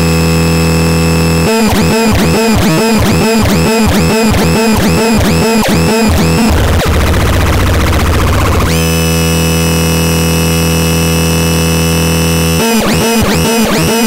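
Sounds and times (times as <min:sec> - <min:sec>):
electronic instrument buzzing: 0:00.0 - 0:14.0
swooping electronic tones: 0:00.1 - 0:14.0.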